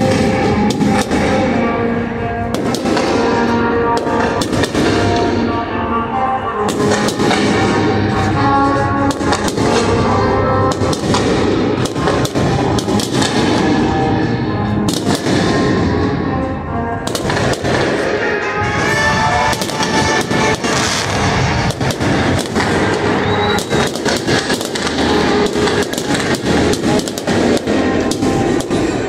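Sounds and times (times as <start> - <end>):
fireworks bangs and crackles: 0.0 - 5.7, 6.6 - 16.4, 17.0 - 29.0
music playing: 0.0 - 29.0.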